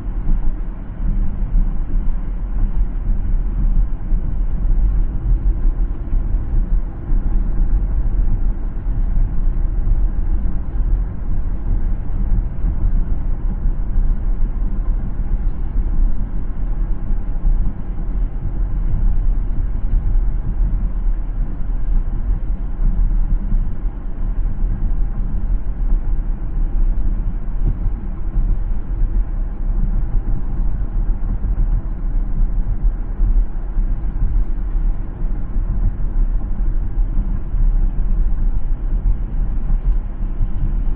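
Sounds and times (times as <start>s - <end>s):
car driving on road: 0.0s - 40.9s.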